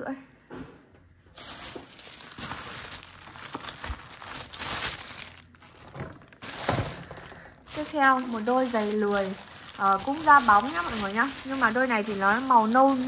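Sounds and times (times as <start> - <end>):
plastic bag crinkling: 1.4 - 13.0.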